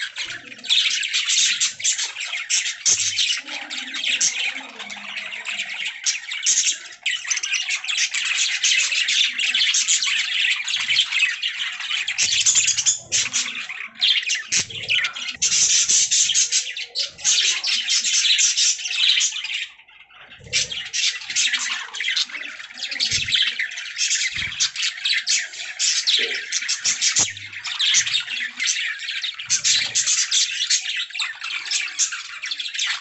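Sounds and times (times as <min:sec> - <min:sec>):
budgerigars chirping and chattering: 0:00.0 - 0:33.0.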